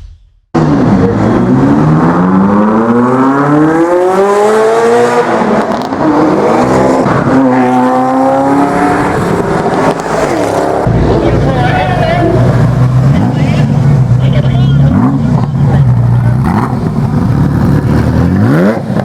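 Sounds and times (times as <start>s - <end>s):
car engine accelerating hard: 0.6s - 19.0s.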